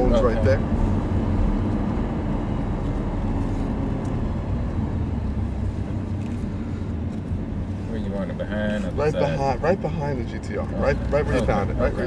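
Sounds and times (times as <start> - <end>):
car engine running steadily: 0.0 - 12.0
road noise: 0.0 - 12.0.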